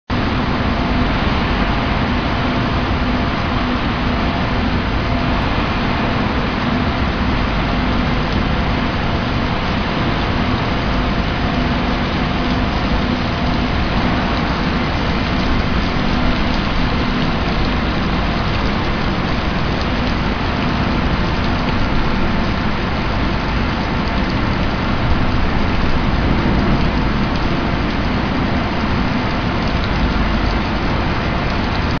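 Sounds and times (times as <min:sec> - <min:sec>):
faint steady hums: 0:00.1 - 0:32.0
pipe mill machinery noise: 0:00.1 - 0:32.0.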